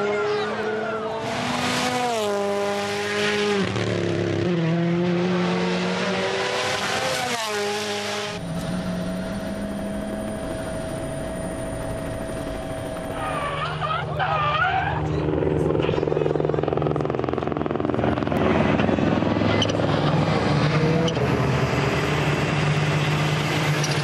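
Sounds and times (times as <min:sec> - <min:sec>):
distant rally car engine: 0:00.0 - 0:24.0
rally car engine passing: 0:00.0 - 0:24.0.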